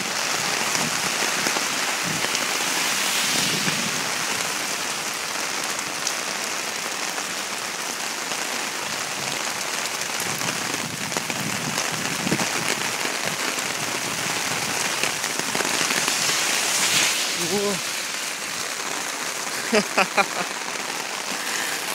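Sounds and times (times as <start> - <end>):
heavy rain on pavement: 0.0 - 21.9.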